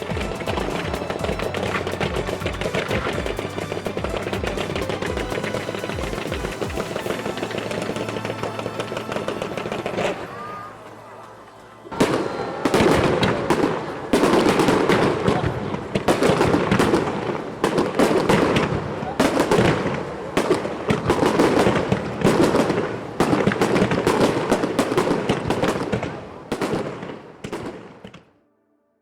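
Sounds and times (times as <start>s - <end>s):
fireworks cracks and booms: 0.0s - 10.7s, 11.9s - 28.3s
fireworks crackling: 0.0s - 28.3s.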